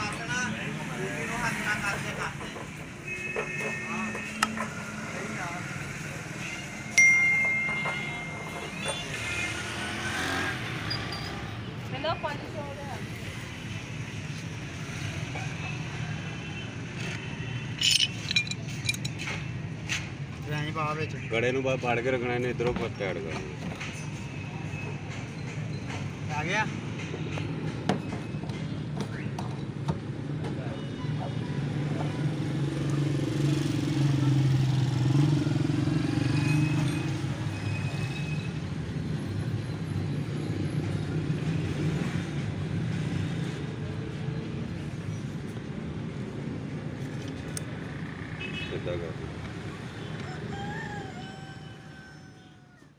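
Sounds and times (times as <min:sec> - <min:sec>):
low rumble of traffic: 0:00.0 - 0:52.9.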